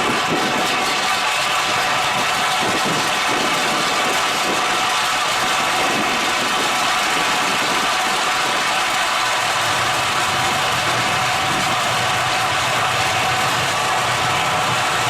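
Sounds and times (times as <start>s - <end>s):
high mechanical whine: 0.0s - 15.0s.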